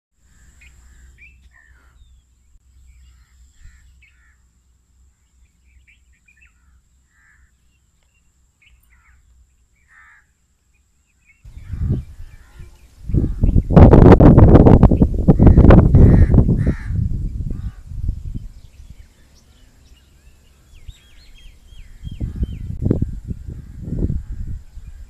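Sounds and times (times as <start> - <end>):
bird calls and chirps: 0.2 - 14.1, 14.8 - 25.0.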